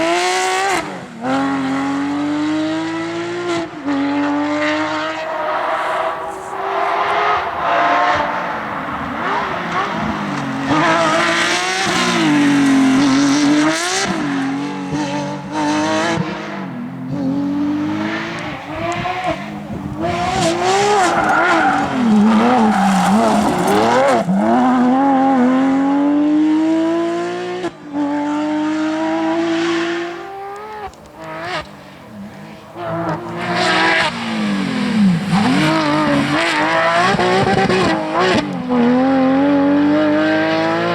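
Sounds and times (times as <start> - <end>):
car engine revving hard: 0.0 - 40.9.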